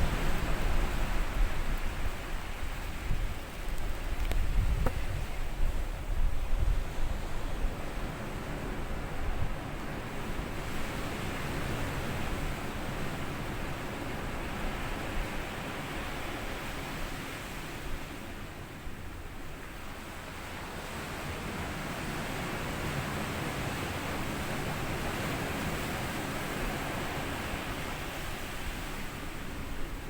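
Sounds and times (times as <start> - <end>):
small waves washing onto sand: 0.0 - 30.0.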